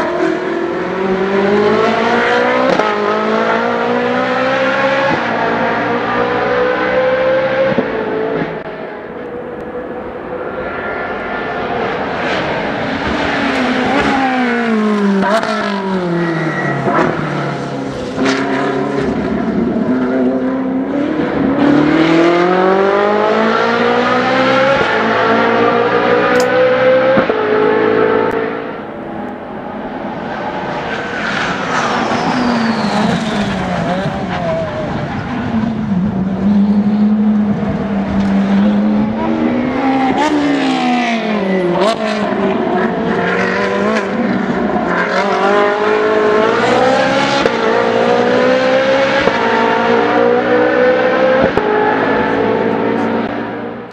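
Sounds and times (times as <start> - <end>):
race car engine revving: 0.0 - 53.9
second race car engine: 0.0 - 53.9.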